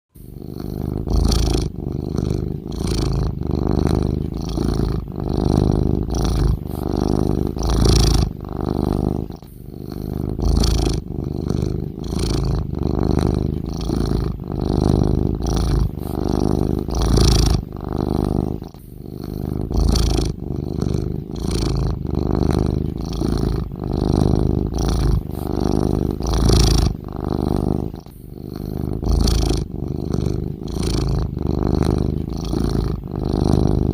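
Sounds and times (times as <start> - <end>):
cat snoring: 0.1 - 33.9.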